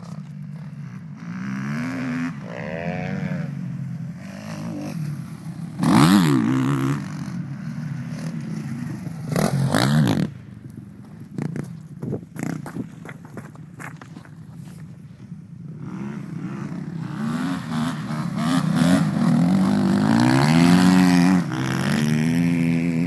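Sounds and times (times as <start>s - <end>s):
motocross bikes revving: 0.0s - 13.0s, 14.8s - 23.0s.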